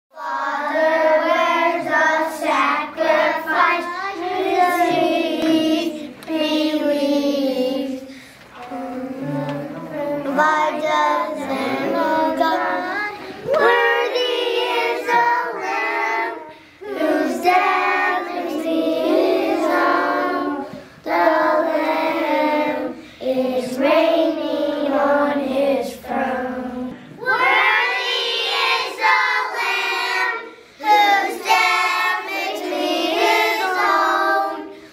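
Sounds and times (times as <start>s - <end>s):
children's choir singing: 0.1s - 34.9s.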